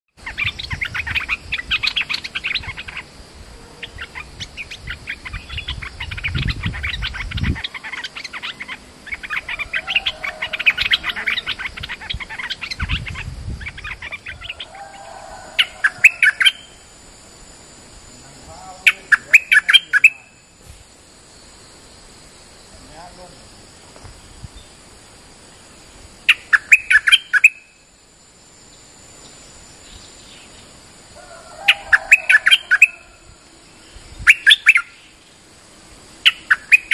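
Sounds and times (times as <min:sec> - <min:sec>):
bird chirping: 0:00.1 - 0:17.0, 0:18.0 - 0:20.6, 0:25.4 - 0:27.9, 0:28.6 - 0:35.5, 0:36.1 - 0:36.9.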